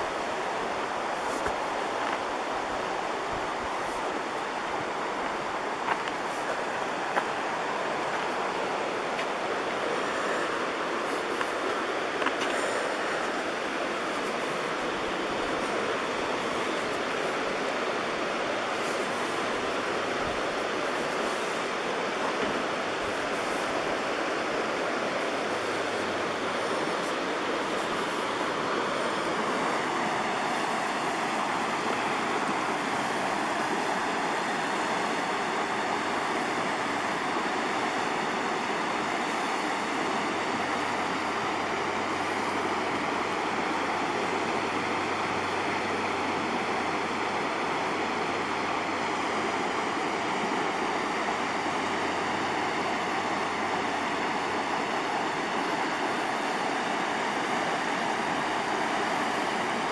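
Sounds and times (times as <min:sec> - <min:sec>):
creek rapids rushing over rocks: 0:00.0 - 0:59.9.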